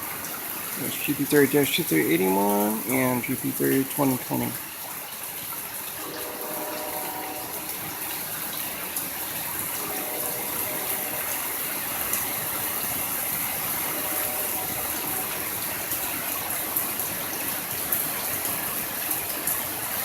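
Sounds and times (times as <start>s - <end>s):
heavy rain pouring: 0.0s - 20.0s
raindrops ticking on microphone: 0.0s - 20.0s.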